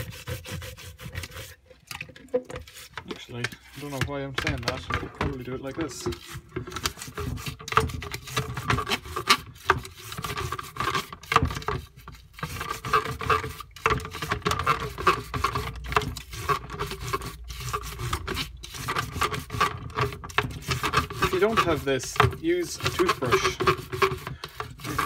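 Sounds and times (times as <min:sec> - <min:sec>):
brush scrubbing plastic: 0:00.0 - 0:25.0.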